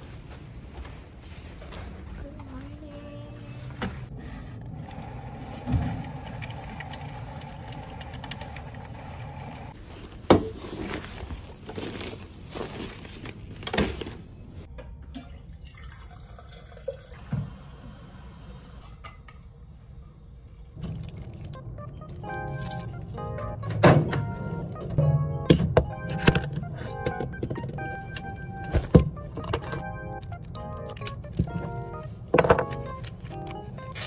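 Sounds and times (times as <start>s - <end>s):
room hum: 0.0s - 34.0s.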